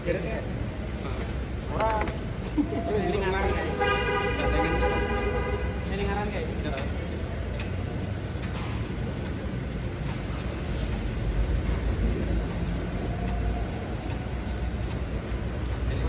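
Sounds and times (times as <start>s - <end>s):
motor vehicle rumble: 0.0s - 16.0s.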